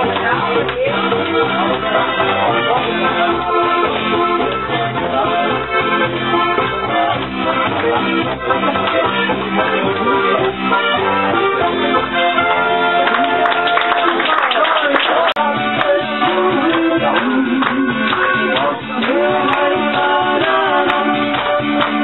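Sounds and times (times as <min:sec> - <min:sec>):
accordion: 0:00.0 - 0:22.0
live band playing folk dance music: 0:00.0 - 0:22.0.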